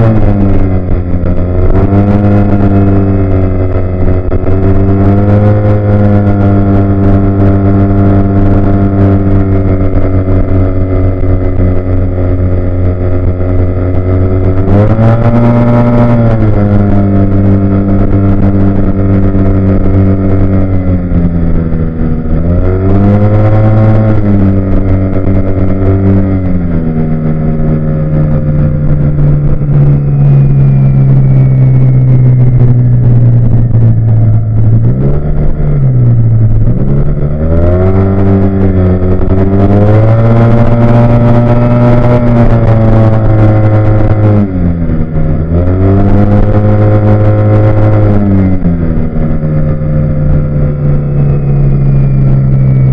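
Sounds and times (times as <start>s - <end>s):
supercharged car engine under load: 0.0s - 52.9s.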